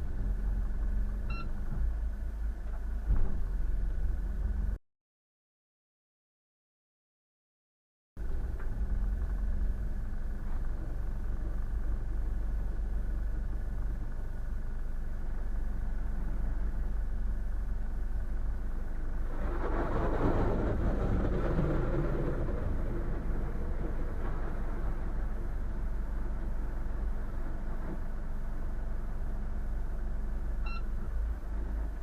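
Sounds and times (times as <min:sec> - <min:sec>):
boat engine rumbling: 0:00.0 - 0:04.8, 0:08.2 - 0:32.0.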